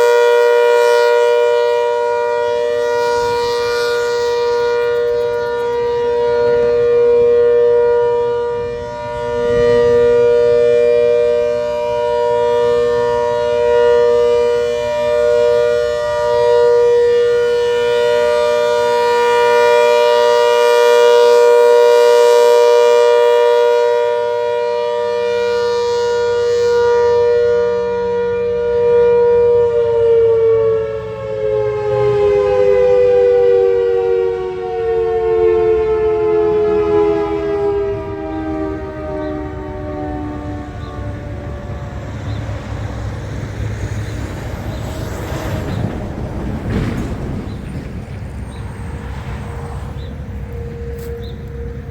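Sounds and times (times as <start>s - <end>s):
warning siren high tone: 0.0s - 47.4s, 48.7s - 51.9s.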